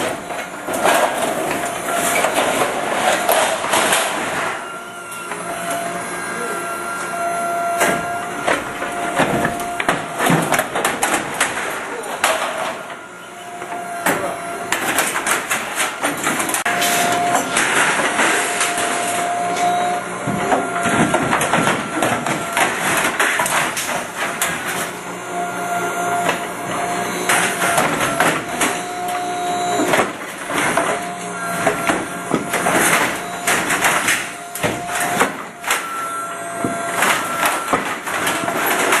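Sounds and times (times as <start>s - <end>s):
machine whine: 0.0s - 39.0s.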